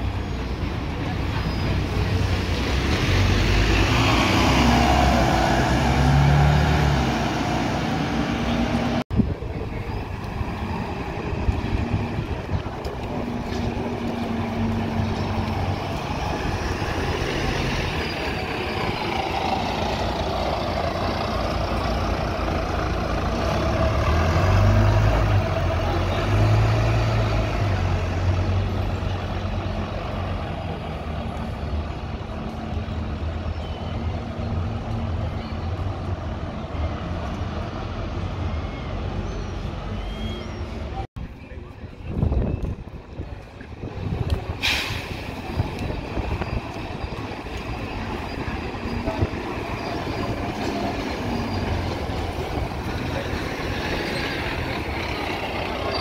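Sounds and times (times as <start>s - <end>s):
bus engine running: 0.0s - 56.0s
street traffic noise: 0.0s - 56.0s.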